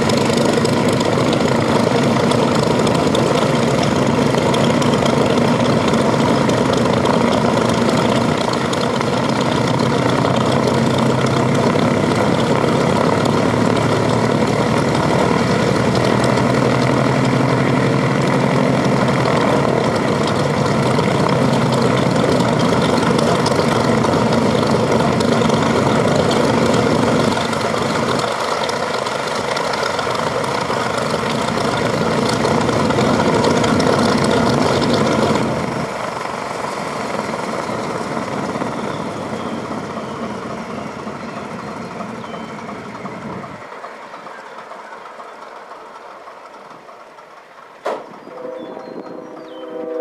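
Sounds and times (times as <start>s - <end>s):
radial aircraft engines running: 0.0s - 50.0s.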